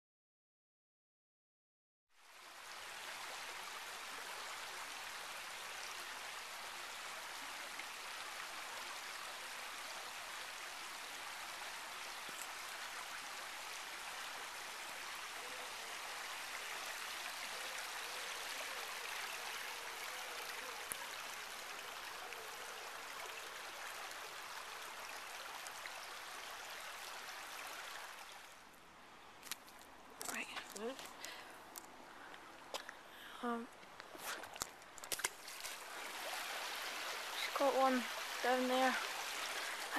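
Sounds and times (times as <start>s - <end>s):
stream running over stones: 2.2s - 39.9s.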